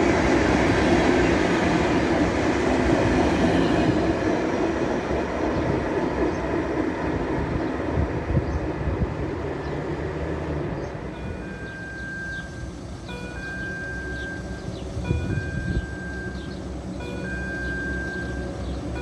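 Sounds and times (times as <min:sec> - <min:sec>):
train wheels rolling on rails: 0:00.0 - 0:19.0.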